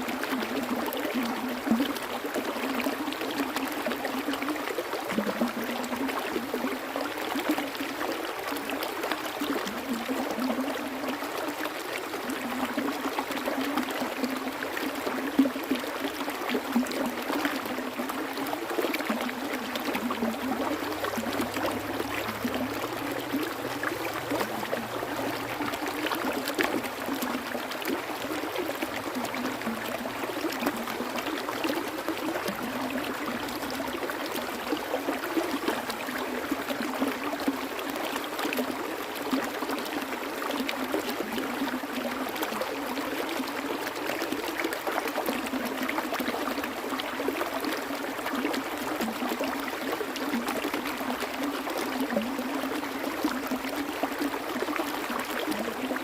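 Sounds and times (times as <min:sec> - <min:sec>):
small splashes and trickles: 0:00.0 - 0:56.0
stream water rushing: 0:05.9 - 0:56.0.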